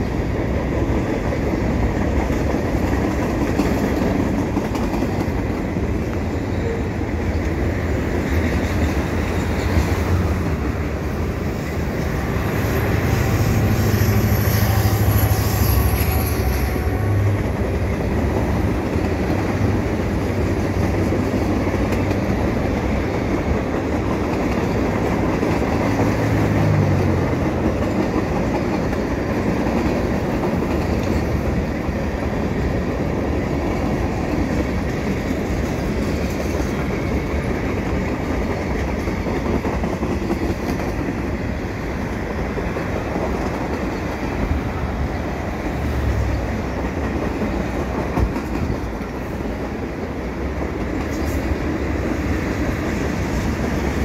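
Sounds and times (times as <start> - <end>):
diesel locomotive engine: 0.0 - 54.0.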